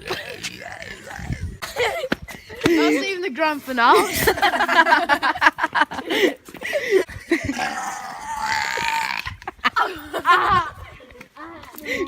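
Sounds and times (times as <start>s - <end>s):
young people laughing: 1.6s - 3.2s, 3.8s - 12.0s.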